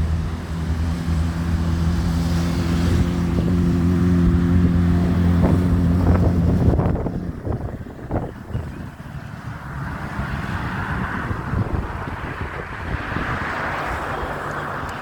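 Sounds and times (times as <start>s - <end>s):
engine humming steadily: 0.0s - 15.0s
wind on microphone: 0.0s - 15.0s.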